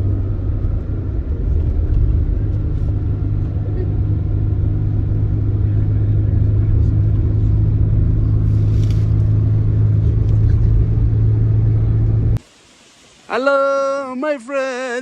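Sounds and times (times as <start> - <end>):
car engine hum: 0.0 - 12.5
road rumble: 0.0 - 12.5.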